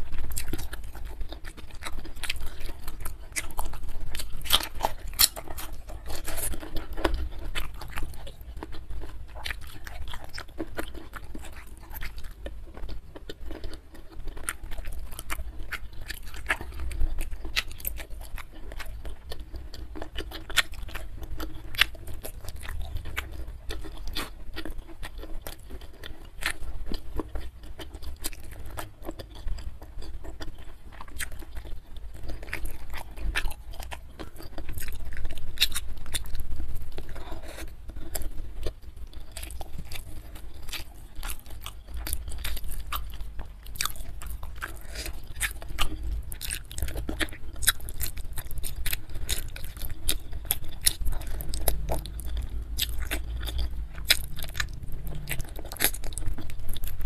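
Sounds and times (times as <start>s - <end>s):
person chewing: 0.0s - 57.0s.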